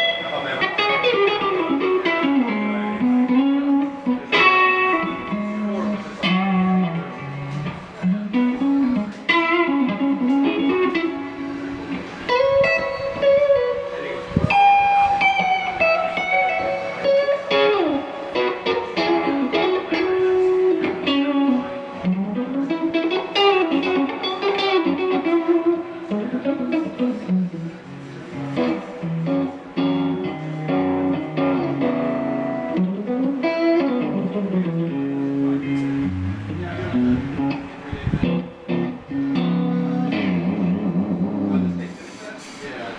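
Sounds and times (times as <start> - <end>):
electric guitar lead lines: 0.0 - 42.9.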